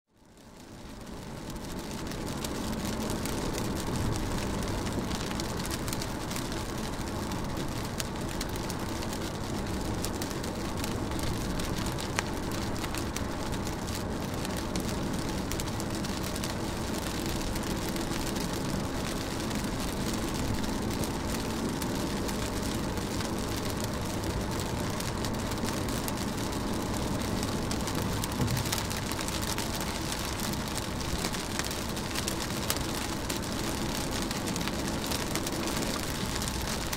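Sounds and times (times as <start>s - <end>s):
rain pattering on a car: 0.2s - 36.9s.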